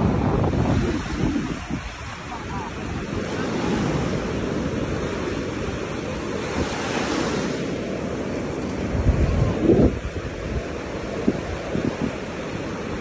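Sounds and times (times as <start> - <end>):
sea surf washing on sand: 0.0 - 13.0
wind buffeting microphone: 0.0 - 13.0.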